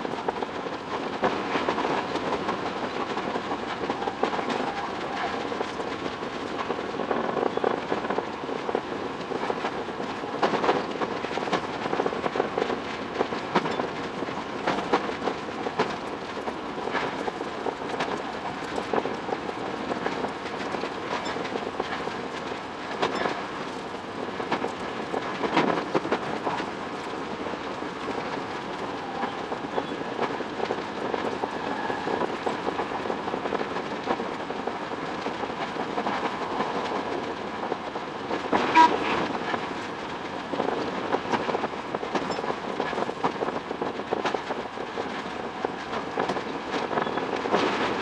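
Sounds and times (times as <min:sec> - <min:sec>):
electric train rumble: 0:00.0 - 0:48.0
wheels clattering over rail joints: 0:00.0 - 0:48.0.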